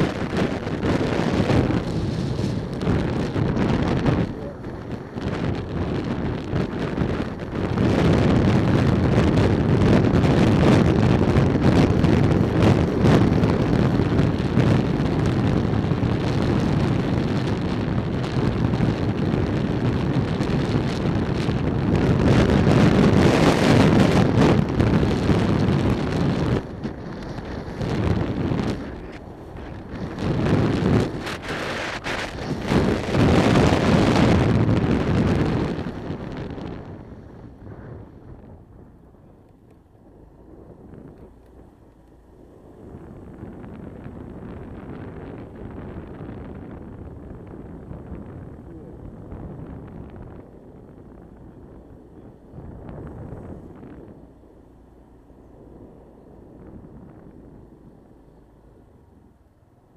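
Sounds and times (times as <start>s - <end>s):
motorcycle engine: 0.0s - 59.9s
road noise: 0.0s - 59.9s
wind rushing over microphone: 0.0s - 59.9s.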